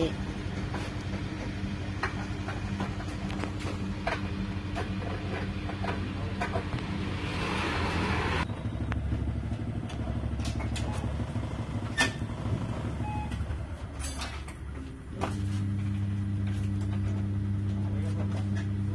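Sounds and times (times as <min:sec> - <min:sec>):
vehicle engine idling: 0:00.0 - 0:18.9.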